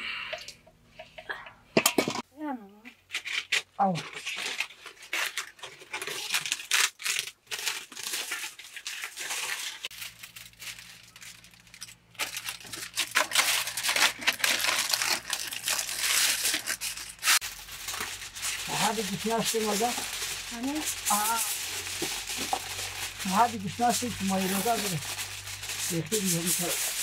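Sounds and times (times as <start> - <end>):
aluminium foil crinkling: 3.1 - 27.0.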